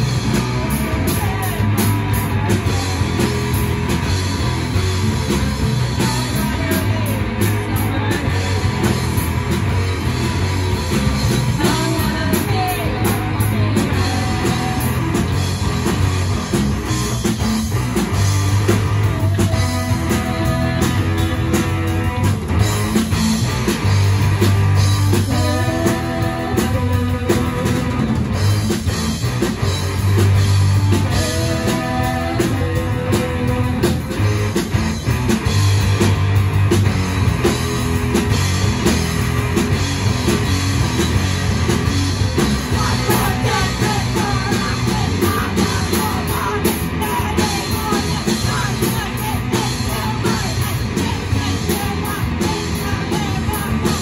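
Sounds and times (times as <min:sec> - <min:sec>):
live rock band: 0:00.0 - 0:54.0.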